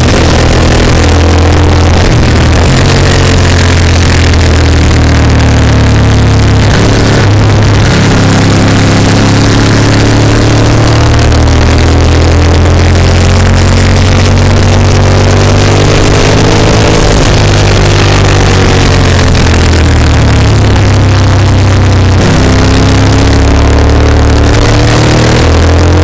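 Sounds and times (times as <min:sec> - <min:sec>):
motorcycle engine revving hard: 0:00.0 - 0:26.0.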